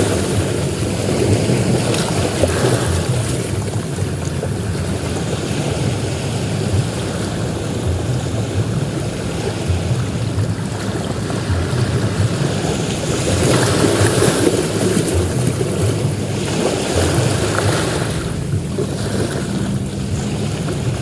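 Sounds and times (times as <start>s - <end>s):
ocean waves breaking on beach: 0.0s - 21.0s
wind on microphone: 0.0s - 21.0s.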